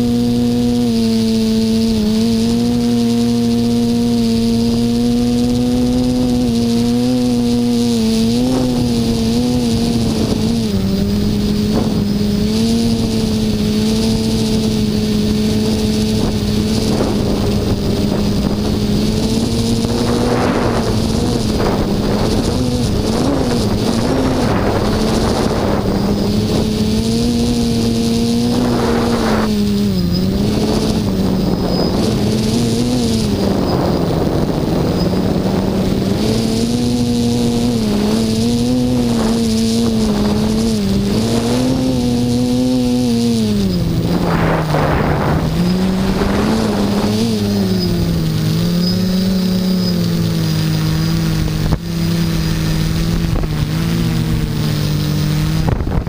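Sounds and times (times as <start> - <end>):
quadcopter propellers humming: 0.0 - 56.0
wind gusts on microphone: 0.0 - 56.0.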